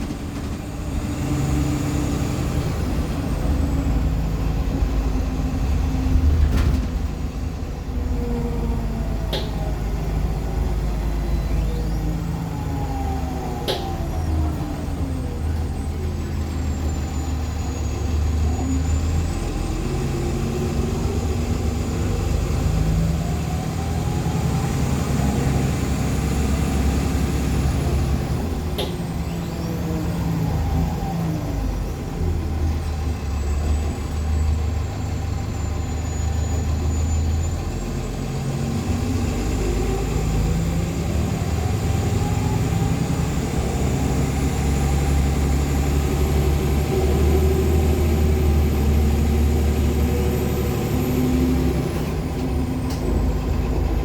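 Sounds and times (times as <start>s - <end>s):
bus engine whining: 0.0s - 54.0s.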